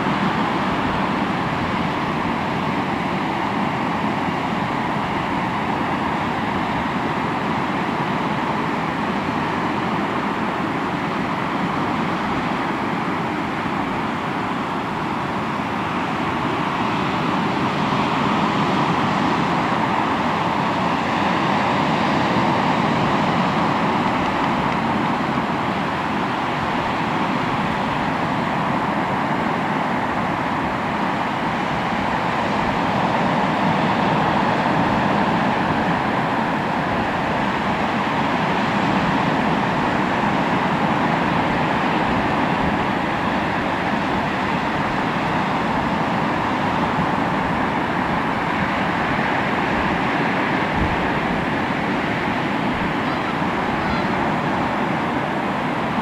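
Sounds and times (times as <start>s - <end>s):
sea waves on shore: 0.0s - 56.0s.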